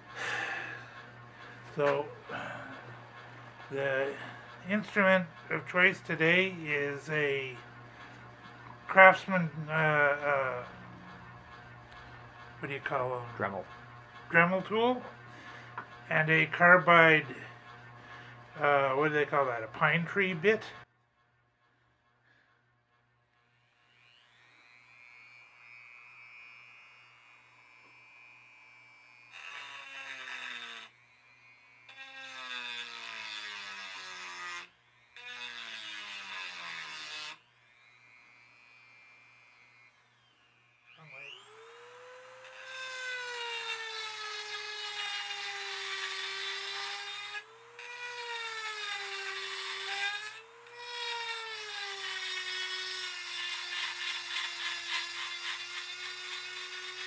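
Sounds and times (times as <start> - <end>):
rotary tool grinding metal: 0.0 - 57.0.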